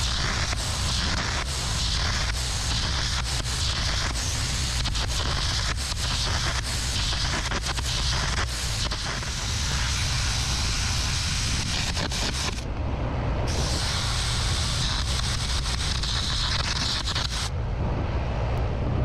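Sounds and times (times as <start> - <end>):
arc gouging hiss and crackle: 0.0 - 12.7, 13.5 - 17.5
low engine rumble: 0.0 - 19.0.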